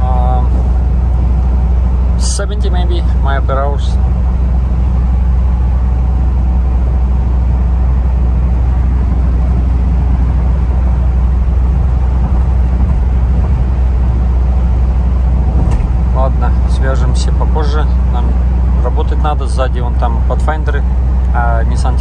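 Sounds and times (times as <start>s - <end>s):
diesel engine rumbling: 0.0s - 22.0s
road and wind noise: 0.0s - 22.0s.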